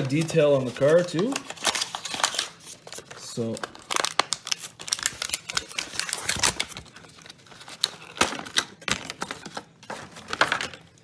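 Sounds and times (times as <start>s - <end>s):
plastic packaging being opened: 0.0s - 11.0s.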